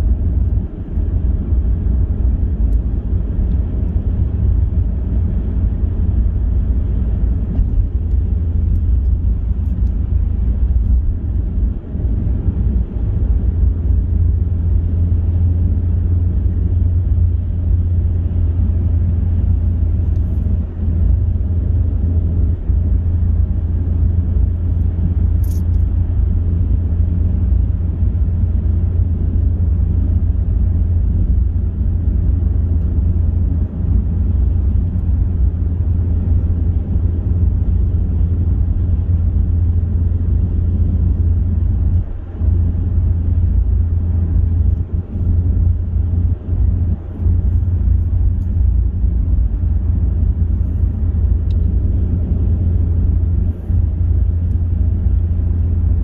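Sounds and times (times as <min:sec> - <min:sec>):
car driving at motorway speed: 0:00.0 - 0:56.0.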